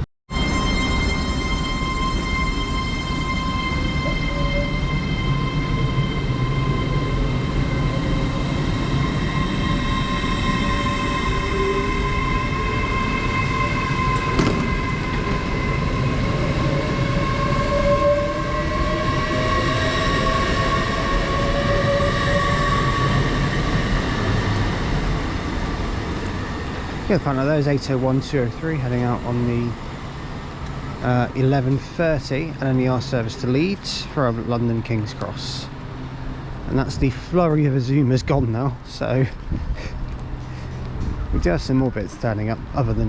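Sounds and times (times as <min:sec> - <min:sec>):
train running rumble: 0:00.0 - 0:43.0
train traction whine: 0:00.0 - 0:43.0.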